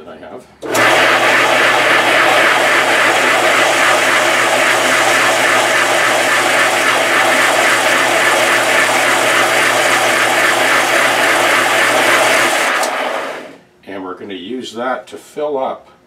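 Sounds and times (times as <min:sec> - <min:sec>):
motor low hum: 0:00.6 - 0:13.6.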